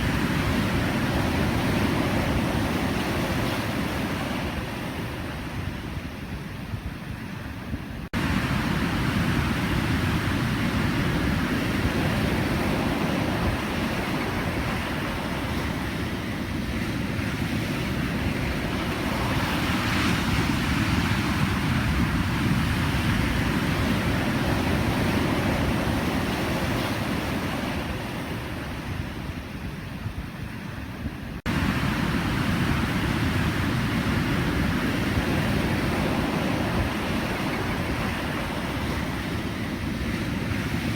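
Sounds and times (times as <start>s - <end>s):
ocean waves breaking: 0.0s - 6.6s, 7.4s - 40.9s.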